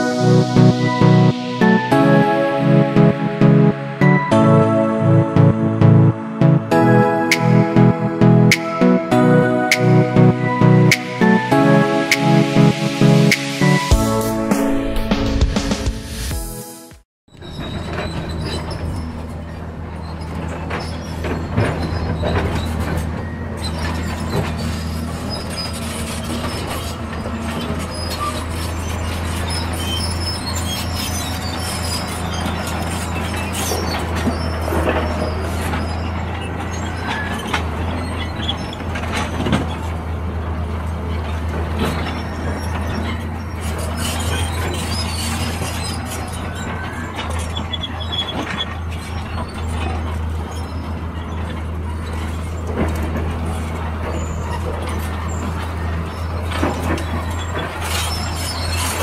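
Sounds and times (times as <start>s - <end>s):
diesel engines running: 0.0s - 16.3s, 17.5s - 59.0s.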